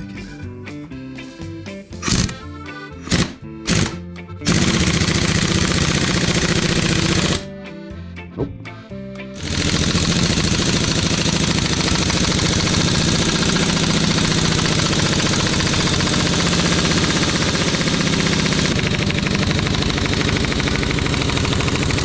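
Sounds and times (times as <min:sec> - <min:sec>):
impact wrench hammering: 0:02.0 - 0:07.4, 0:09.4 - 0:22.0.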